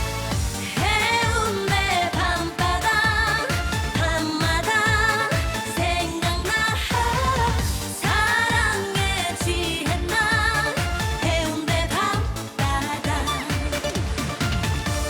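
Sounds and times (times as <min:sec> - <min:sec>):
pop backing track with dance beat: 0:00.0 - 0:15.0
woman singing with vibrato: 0:00.6 - 0:13.9.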